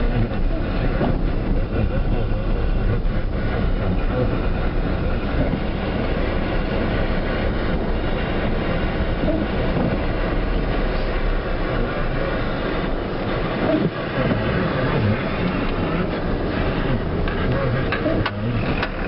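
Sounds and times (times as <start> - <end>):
loud low rumbling: 0.0 - 19.0.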